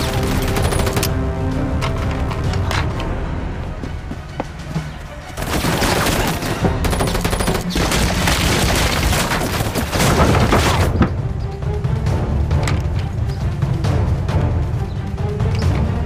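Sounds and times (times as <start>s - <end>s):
dramatic film score: 0.0s - 16.0s.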